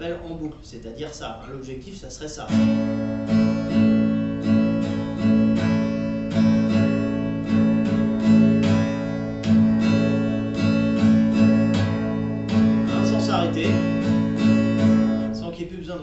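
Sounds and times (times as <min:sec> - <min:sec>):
guitar strumming: 0:02.4 - 0:15.8.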